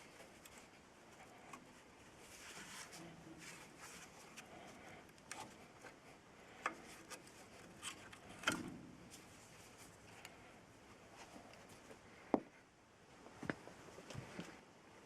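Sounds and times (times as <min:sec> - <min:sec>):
faint rubbing and scraping: 0:00.0 - 0:12.2.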